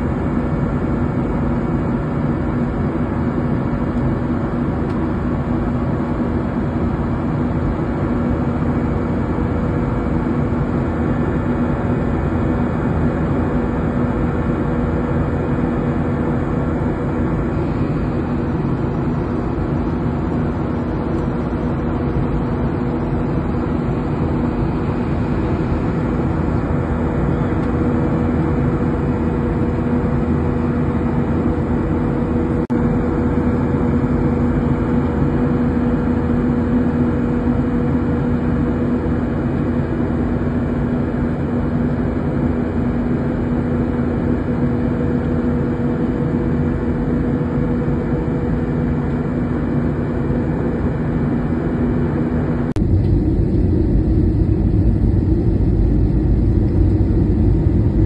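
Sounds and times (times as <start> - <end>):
jet engine and airflow noise: 0.0 - 58.0
low hum: 0.0 - 58.0.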